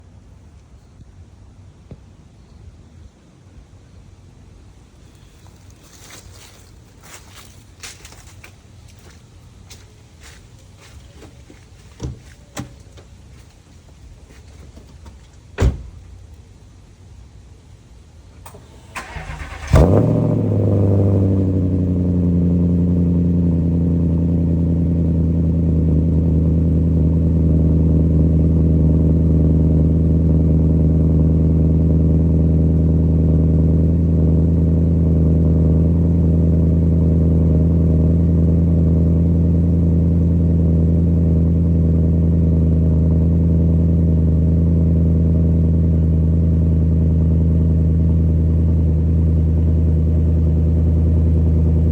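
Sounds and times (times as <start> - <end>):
car engine starting and idling: 4.2 - 51.9.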